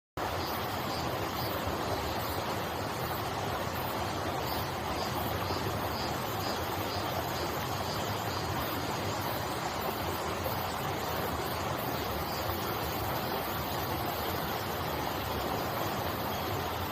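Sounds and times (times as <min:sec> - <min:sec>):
stream flowing: 0:00.2 - 0:16.9.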